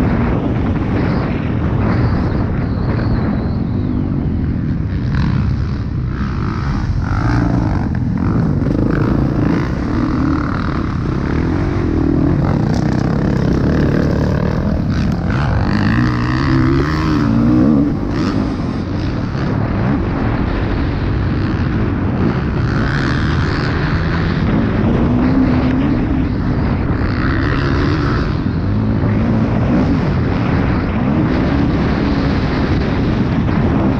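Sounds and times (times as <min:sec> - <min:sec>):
motocross bike engine revving: 0:02.9 - 0:33.9.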